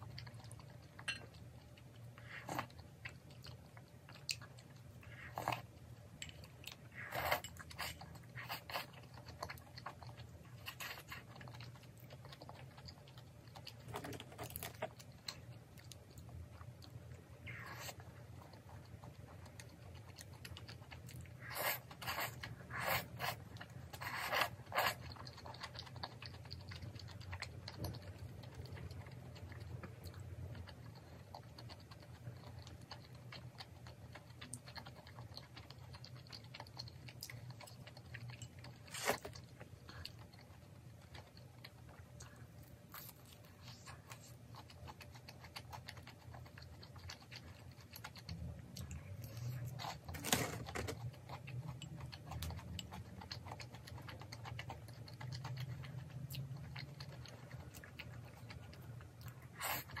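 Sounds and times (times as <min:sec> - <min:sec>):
person chewing food: 0:00.0 - 1:00.0.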